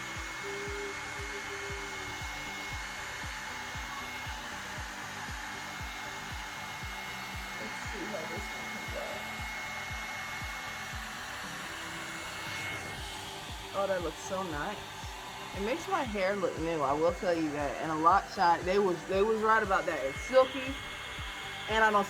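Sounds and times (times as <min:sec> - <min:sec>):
hair dryer brush blowing: 0:00.0 - 0:22.0
soft low pulsing beat: 0:00.0 - 0:22.0.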